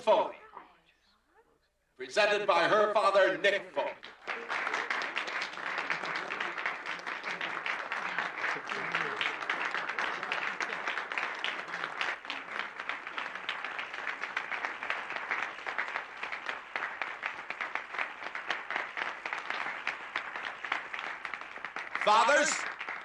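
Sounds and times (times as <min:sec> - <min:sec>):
crowd applauding: 0:03.8 - 0:23.0.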